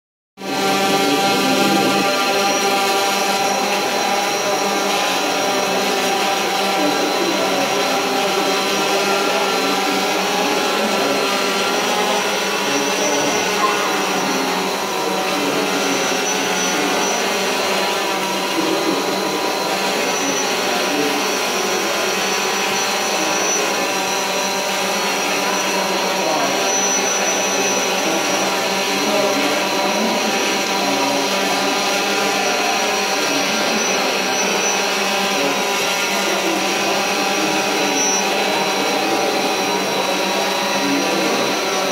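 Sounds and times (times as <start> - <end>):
drone propellers buzzing: 0.4 - 41.9.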